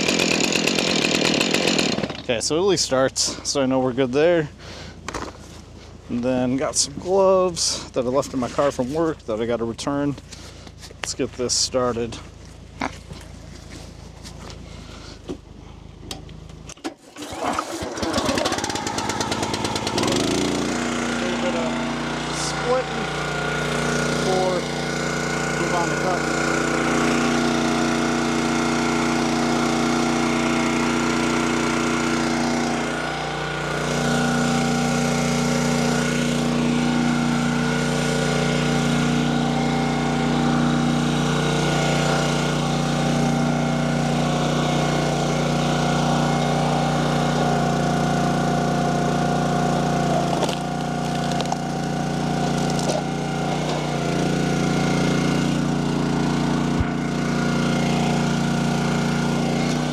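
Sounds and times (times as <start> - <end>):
log splitter engine running: 0.0 - 59.9.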